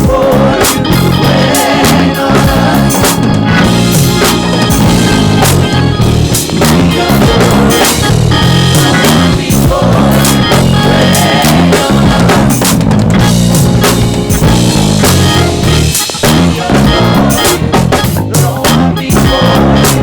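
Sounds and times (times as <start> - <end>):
bass drum: 0.0 - 20.0
live band instrumental groove: 0.0 - 20.0.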